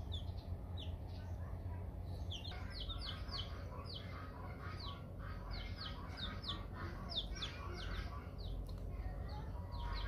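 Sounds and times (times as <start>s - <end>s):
chicks peeping: 0.0s - 10.0s
steady low hum: 0.0s - 10.0s.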